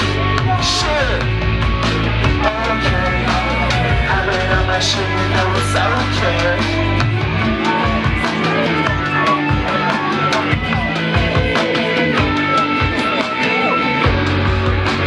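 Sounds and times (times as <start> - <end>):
live band music: 0.0 - 15.0
sustained bass: 0.0 - 15.0.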